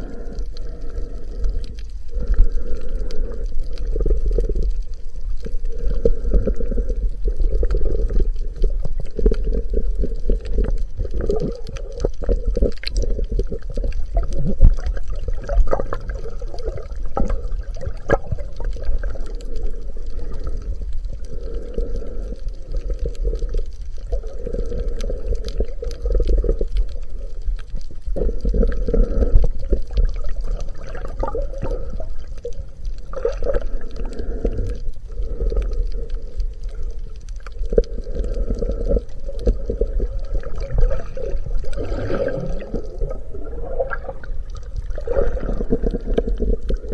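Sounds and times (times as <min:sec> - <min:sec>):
muffled underwater rumble: 0:00.0 - 0:46.9.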